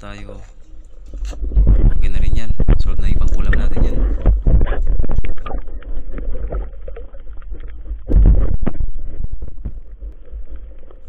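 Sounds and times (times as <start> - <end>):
water sloshing and knocking: 0.4 - 11.0.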